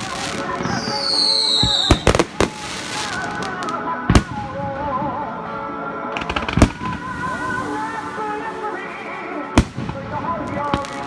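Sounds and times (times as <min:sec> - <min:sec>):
fireworks crackling pops: 0:00.0 - 0:04.7, 0:06.1 - 0:11.0
fireworks bangs: 0:00.0 - 0:04.8, 0:06.2 - 0:11.0
music playing: 0:00.0 - 0:11.0.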